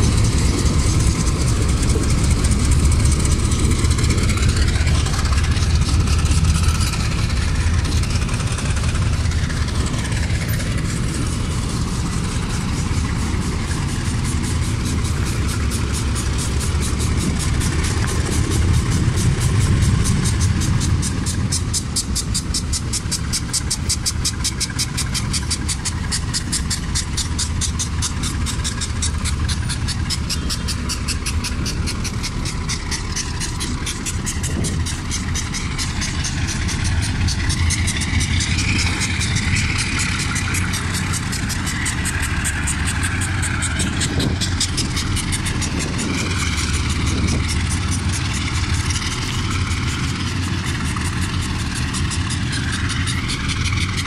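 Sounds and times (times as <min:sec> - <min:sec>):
diesel locomotive engine humming: 0:00.0 - 0:54.0
fast even ticking: 0:00.0 - 0:54.0.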